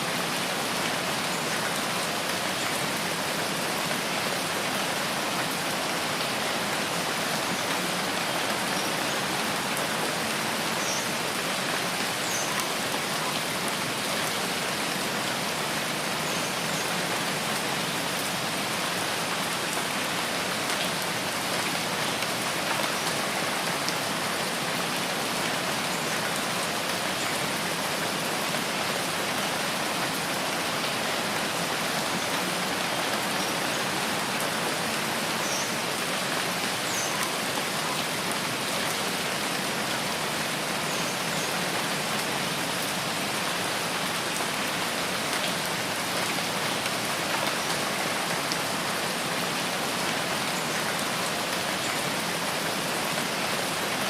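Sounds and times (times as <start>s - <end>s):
steady rain on foliage: 0.0s - 54.0s.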